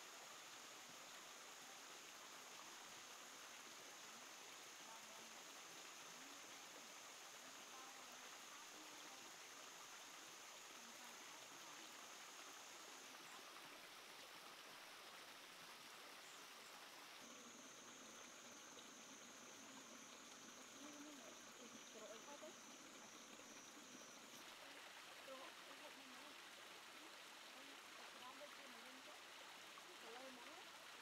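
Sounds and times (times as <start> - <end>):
soft hiss: 0.0 - 31.0.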